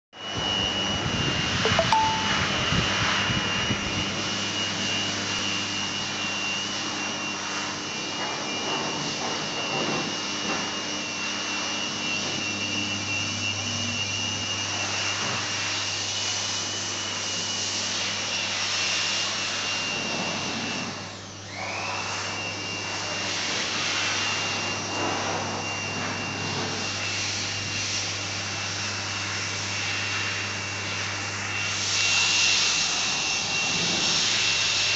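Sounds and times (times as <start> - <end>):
cooling unit whirring and whining: 0.2 - 34.9.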